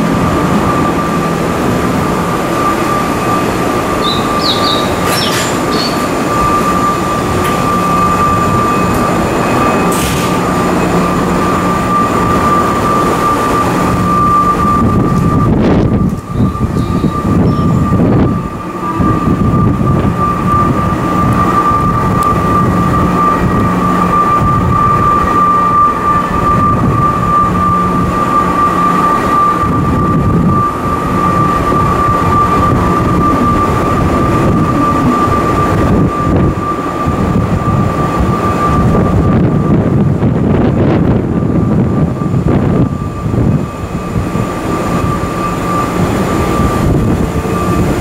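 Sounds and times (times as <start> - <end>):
high-pitched train equipment whine: 0.0 - 48.0
low hum: 0.0 - 48.0.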